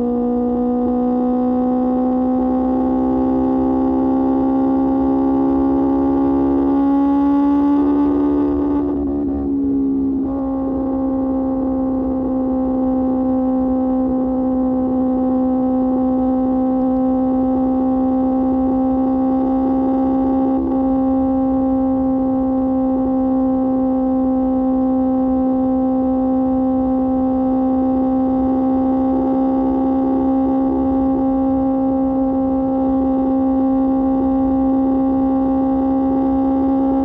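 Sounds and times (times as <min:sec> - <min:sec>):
motorcycle engine droning at high revs: 0:00.0 - 0:37.0.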